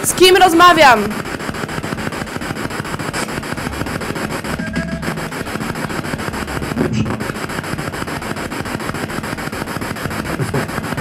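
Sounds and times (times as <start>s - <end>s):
pulsing radio static hiss: 0.0s - 11.0s.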